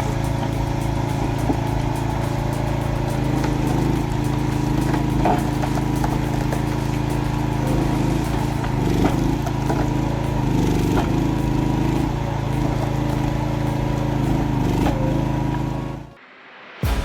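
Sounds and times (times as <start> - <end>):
machine engine running: 0.0 - 16.2.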